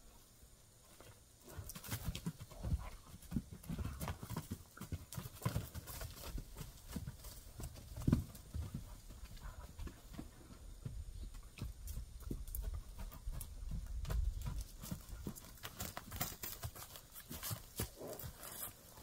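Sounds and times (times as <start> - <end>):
hooves thudding on dirt: 0.7 - 19.0.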